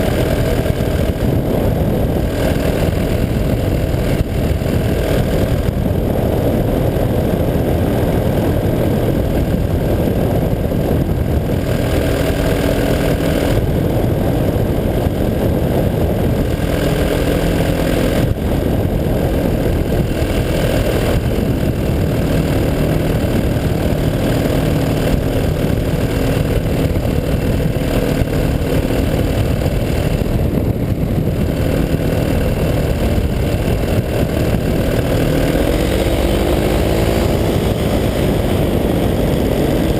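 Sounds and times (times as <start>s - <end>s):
paramotor engine running: 0.0s - 39.9s.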